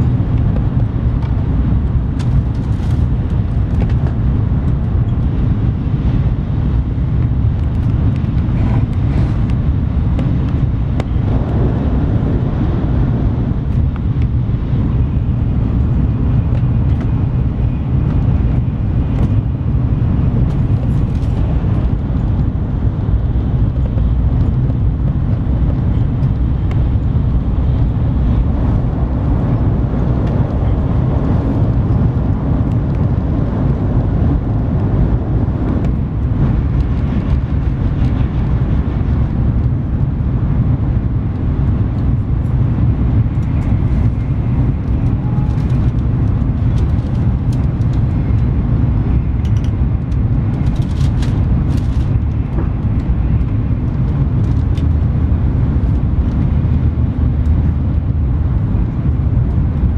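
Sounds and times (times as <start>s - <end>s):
deep train running noise: 0.0s - 59.9s.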